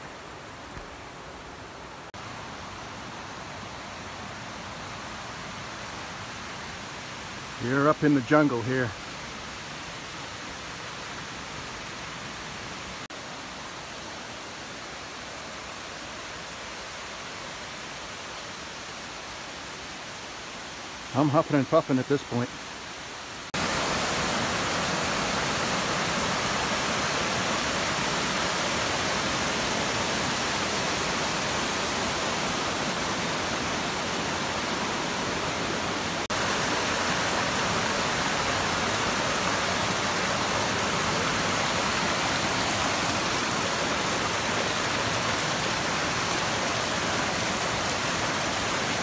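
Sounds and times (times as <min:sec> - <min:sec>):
waterfall and stream over rocks: 0:00.0 - 0:49.0.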